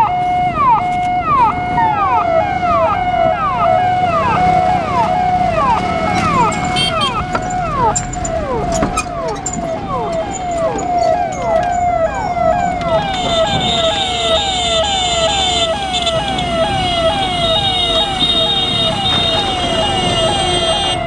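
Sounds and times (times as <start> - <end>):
ambulance siren yelping: 0.0 - 21.0
road noise: 0.0 - 21.0.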